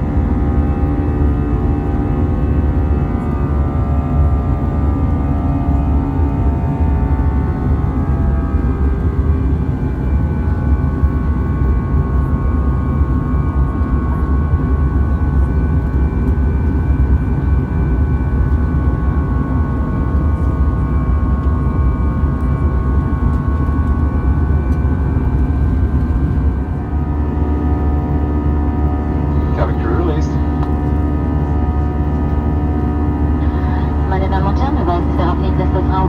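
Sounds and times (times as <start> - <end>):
airplane cabin engine rumble: 0.0 - 36.0
engine tones humming: 0.0 - 36.0.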